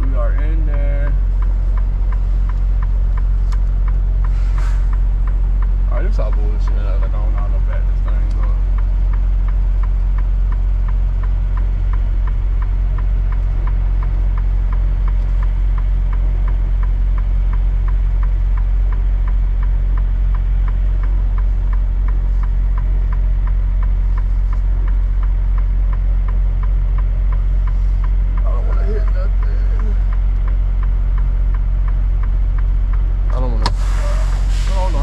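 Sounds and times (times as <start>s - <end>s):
even ticking: 0.0s - 33.7s
diesel truck engine running low: 0.0s - 35.0s.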